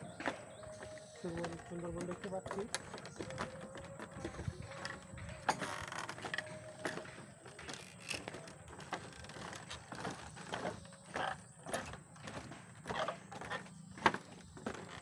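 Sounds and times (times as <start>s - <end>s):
footsteps on wooden boardwalk: 0.0s - 15.0s.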